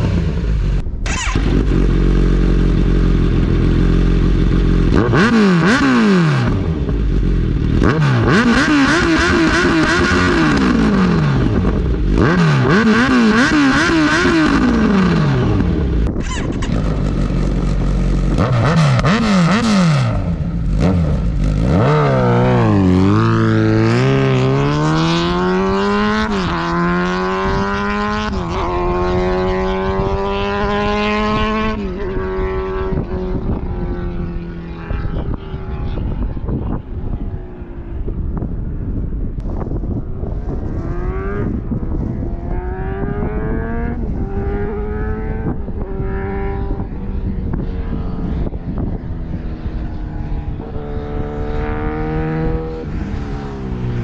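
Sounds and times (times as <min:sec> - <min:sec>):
motorcycle accelerating: 0:00.0 - 0:54.0
motorcycle engine revving: 0:00.0 - 0:54.0.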